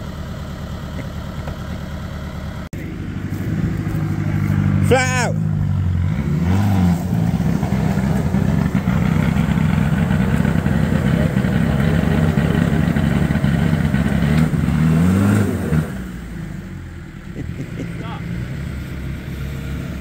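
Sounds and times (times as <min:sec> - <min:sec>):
diesel engine at high revs: 0:00.0 - 0:20.0.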